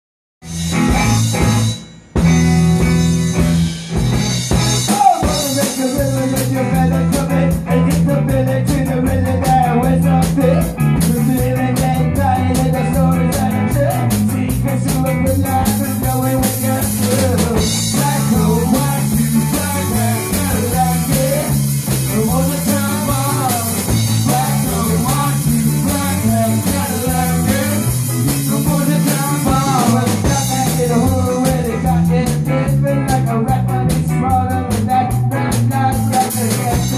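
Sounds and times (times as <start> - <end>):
bending lead guitar line: 0.4 - 36.9
rock band jamming: 0.4 - 36.9.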